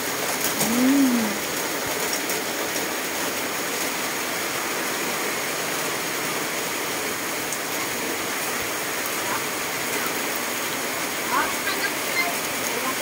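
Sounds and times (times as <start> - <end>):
heavy rain on foliage: 0.0 - 13.0.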